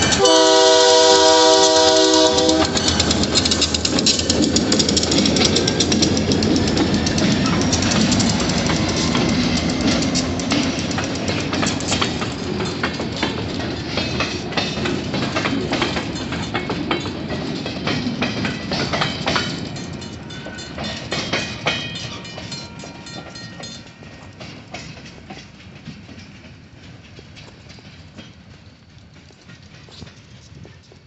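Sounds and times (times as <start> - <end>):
train wheels clattering over rail joints: 0.0 - 31.0.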